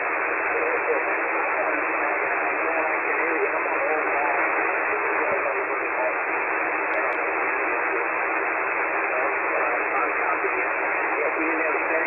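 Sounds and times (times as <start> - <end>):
faint voice over radio: 0.0 - 12.0
radio band noise hiss: 0.0 - 12.0.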